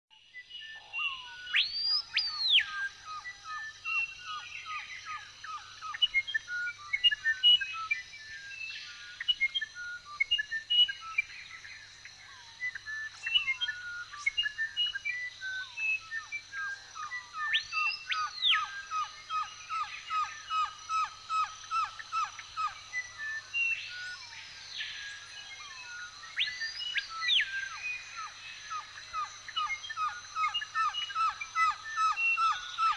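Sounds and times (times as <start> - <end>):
loud whistled bird calls: 0.2 - 32.9
birds calling and chirping: 0.4 - 32.9.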